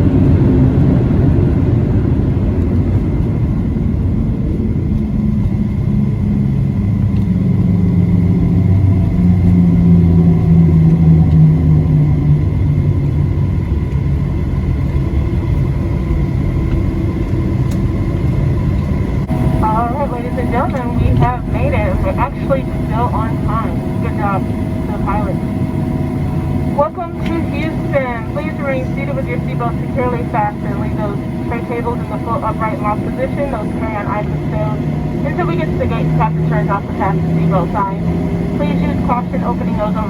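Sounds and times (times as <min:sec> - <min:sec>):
airliner cabin rumble: 0:00.0 - 0:40.0
jet engines low tone: 0:00.0 - 0:40.0.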